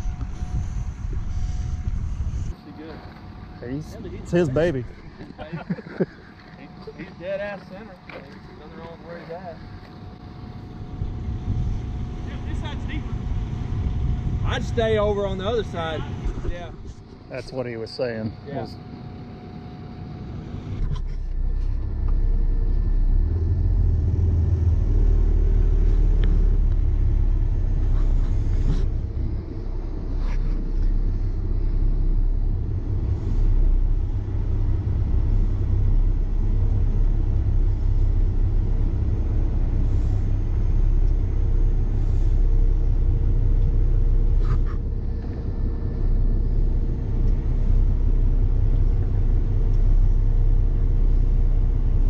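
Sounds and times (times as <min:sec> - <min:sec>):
diesel truck engine rumbling: 0:00.0 - 0:52.0.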